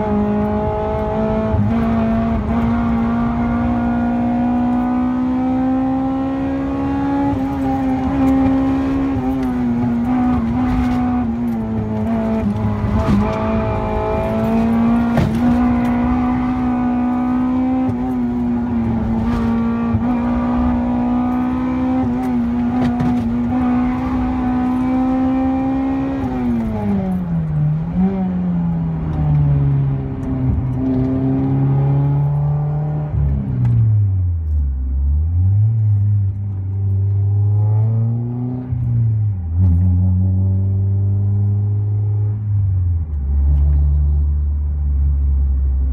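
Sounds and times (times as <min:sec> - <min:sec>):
car engine at high revs: 0:00.0 - 0:45.9.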